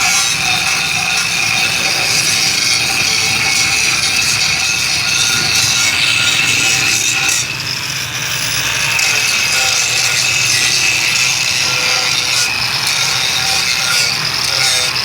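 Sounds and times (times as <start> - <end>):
power grinder grinding metal pan: 0.0 - 15.0.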